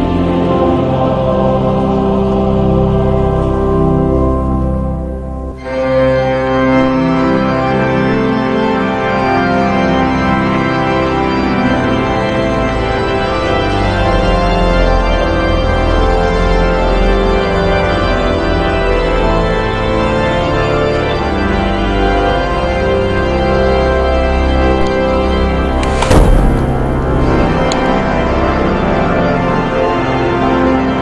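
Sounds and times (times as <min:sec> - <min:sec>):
organ playing dense chords: 0:00.0 - 0:31.0.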